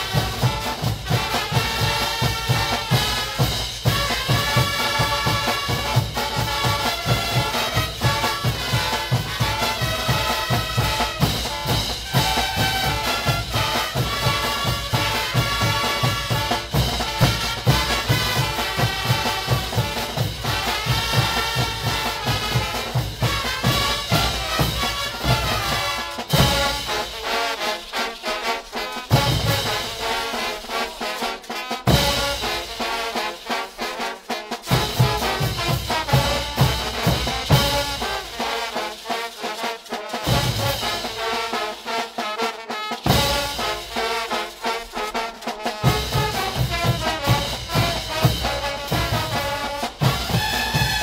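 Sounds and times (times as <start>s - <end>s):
steady drum beat: 0.0s - 51.0s
trumpets and trombones: 0.0s - 51.0s.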